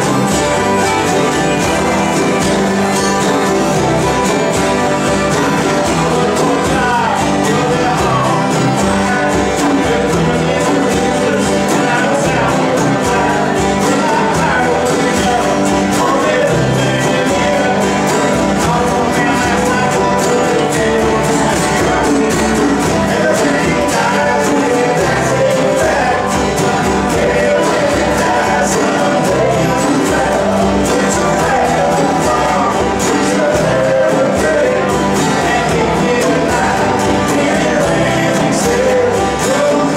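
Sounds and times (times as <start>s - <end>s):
acoustic guitars strumming: 0.0s - 39.9s
man singing: 0.0s - 39.9s.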